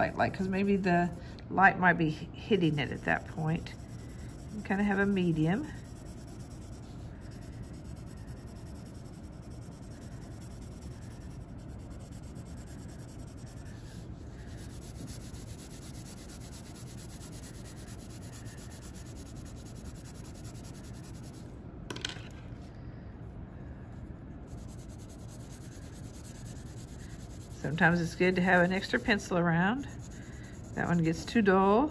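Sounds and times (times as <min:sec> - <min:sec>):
pencil scratching on paper: 0:00.0 - 0:01.2, 0:02.6 - 0:21.4, 0:24.4 - 0:31.5.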